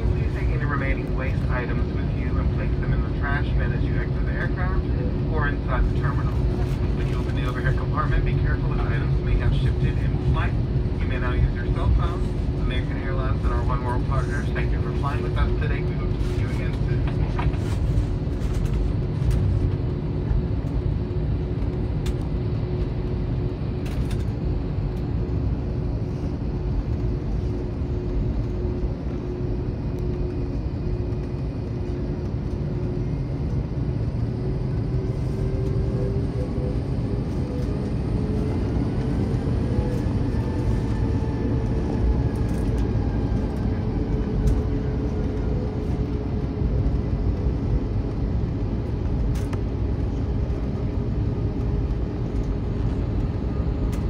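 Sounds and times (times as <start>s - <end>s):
aircraft cabin rumble: 0.0s - 54.0s
jet engine hum: 0.0s - 54.0s.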